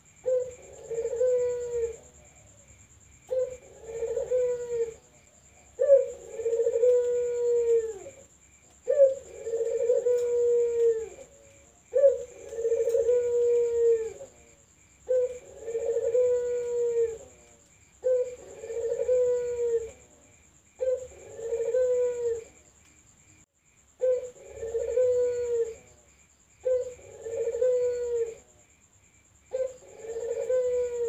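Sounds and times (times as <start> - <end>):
dove cooing: 0.2 - 2.5, 3.3 - 20.2, 20.8 - 22.6, 24.0 - 26.0, 26.6 - 28.5, 29.5 - 31.0.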